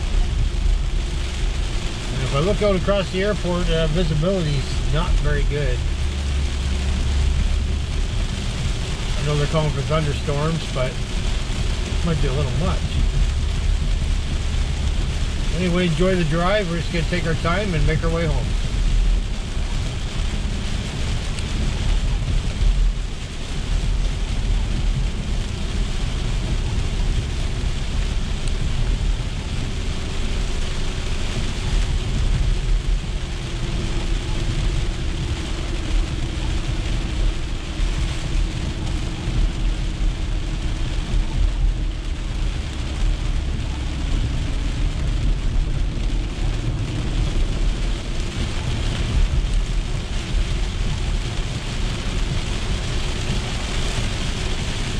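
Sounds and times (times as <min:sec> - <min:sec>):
rain on car windshield and roof: 0:00.0 - 0:54.9
tyres rumbling on wet road: 0:00.0 - 0:54.9.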